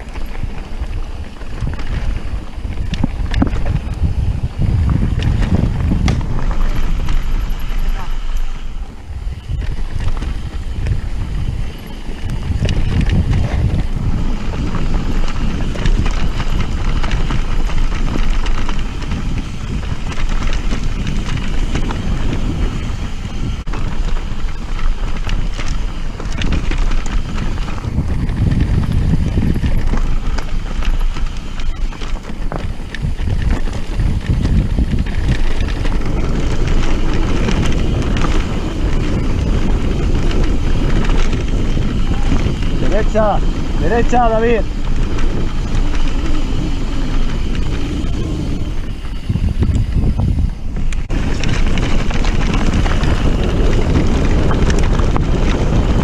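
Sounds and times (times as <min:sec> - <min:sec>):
bike rattling and knocking: 0:00.0 - 0:56.0
tyres crunching over dirt: 0:00.0 - 0:56.0
wind buffeting microphone: 0:00.0 - 0:56.0.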